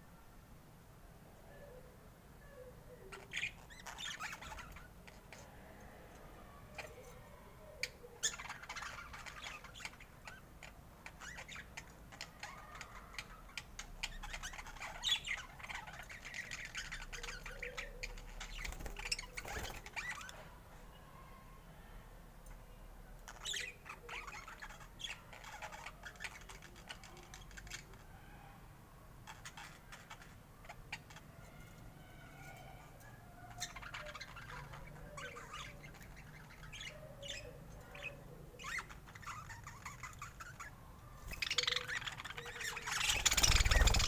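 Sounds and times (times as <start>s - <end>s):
budgerigars chattering and squawking: 3.1s - 5.5s, 6.7s - 20.4s, 23.3s - 28.2s, 29.2s - 44.0s.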